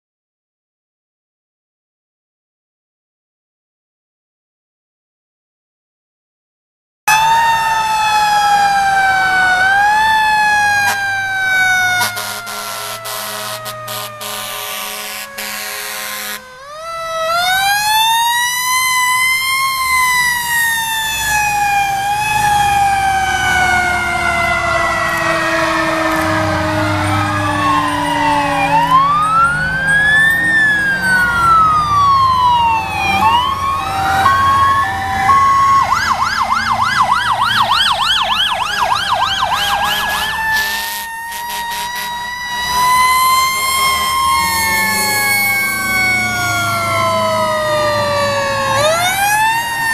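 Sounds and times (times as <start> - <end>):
fire engine sirens wailing: 7.1 - 49.9
siren yelping rapidly: 7.1 - 49.9.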